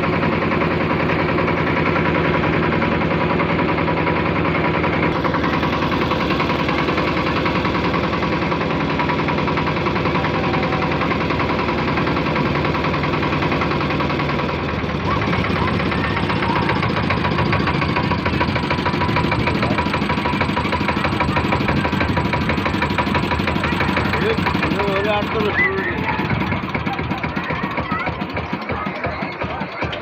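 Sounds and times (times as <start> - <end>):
motorboat engine running: 0.0 - 30.0.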